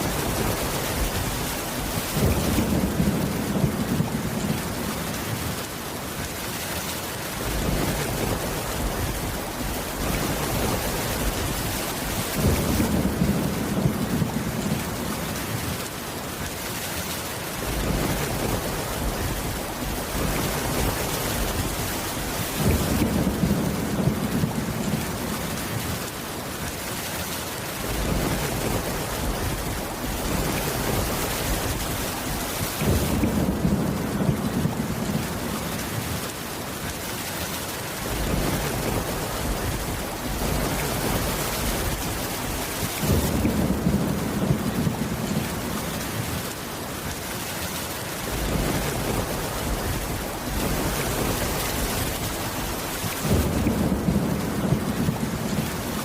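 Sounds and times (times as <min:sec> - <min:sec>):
low thunder rumbles: 0:00.0 - 0:05.7, 0:07.4 - 0:15.9, 0:17.6 - 0:26.1, 0:27.8 - 0:36.3, 0:38.0 - 0:46.6, 0:48.2 - 0:56.0
heavy rain: 0:00.0 - 0:56.0.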